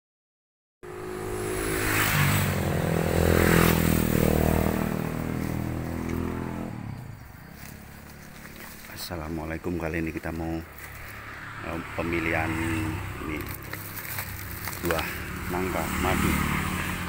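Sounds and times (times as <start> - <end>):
vehicle engine running: 0.9 - 17.0.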